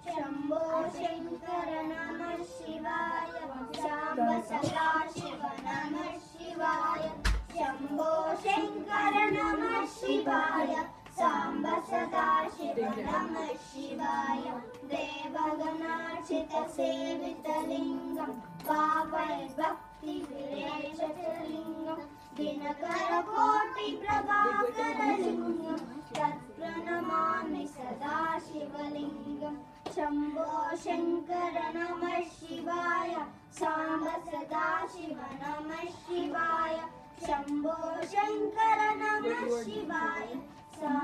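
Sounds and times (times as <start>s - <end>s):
children singing a hymn: 0.0s - 41.0s.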